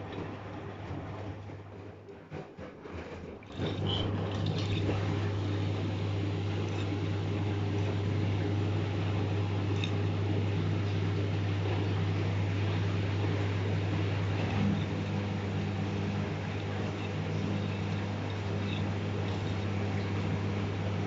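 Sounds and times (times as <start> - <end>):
washing machine drain pump humming: 0.0 - 21.0.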